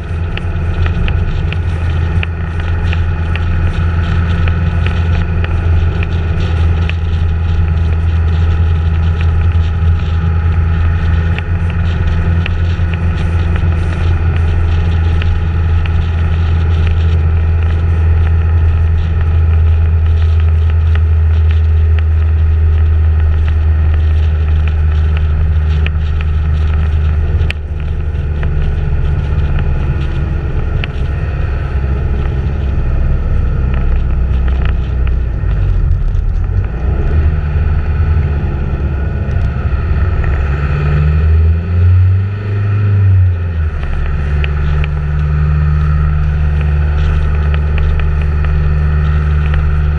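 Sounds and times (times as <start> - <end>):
vehicle engine drone: 0.0 - 49.9.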